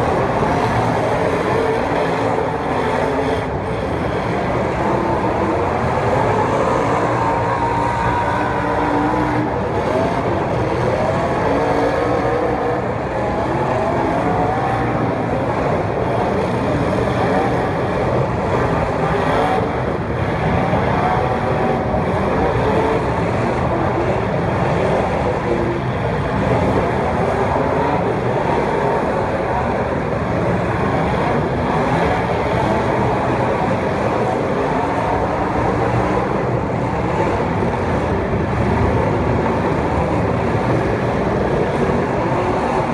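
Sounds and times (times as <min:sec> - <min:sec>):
racing engines accelerating: 0:00.0 - 0:42.9.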